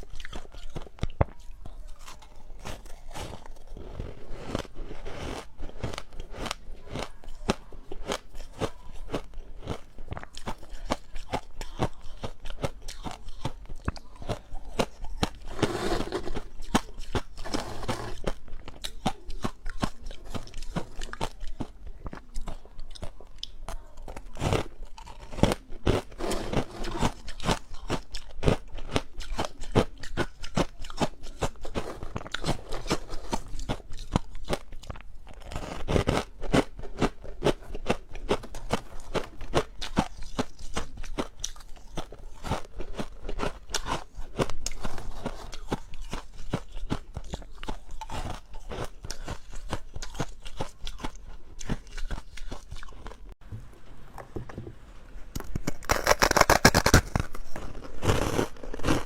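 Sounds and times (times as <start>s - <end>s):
ice being chewed: 0.0s - 53.4s, 55.4s - 59.0s.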